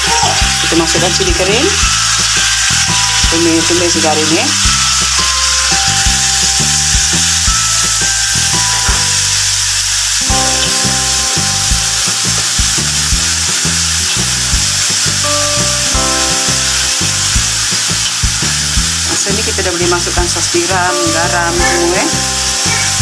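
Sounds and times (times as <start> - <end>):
background music with held notes: 0.0 - 23.0
chillies sizzling in hot oil: 0.0 - 23.0.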